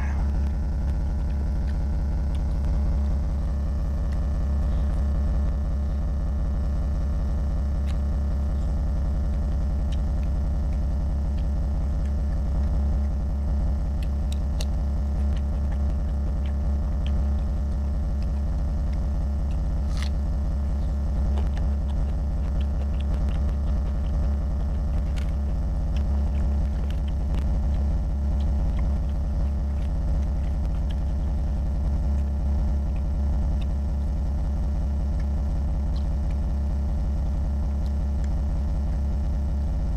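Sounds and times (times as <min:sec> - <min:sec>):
steady low hum: 0:00.0 - 0:39.9
wet chewing clicks and smacks: 0:00.2 - 0:39.9.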